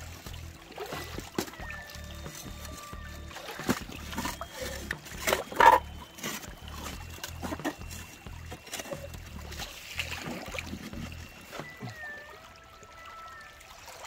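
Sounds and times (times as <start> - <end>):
background music with bass beat: 0.0 - 11.6.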